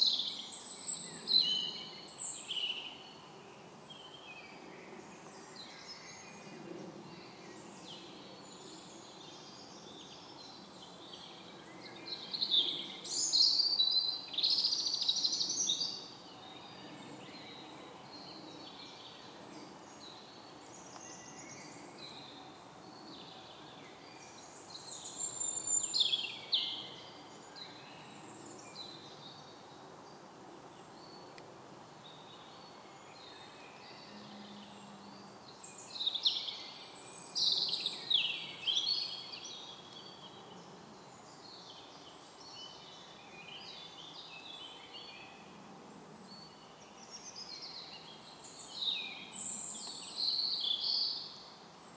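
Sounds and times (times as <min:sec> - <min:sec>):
faint steady background noise: 0:00.0 - 0:51.9
songbirds singing and chirping: 0:00.0 - 0:51.9.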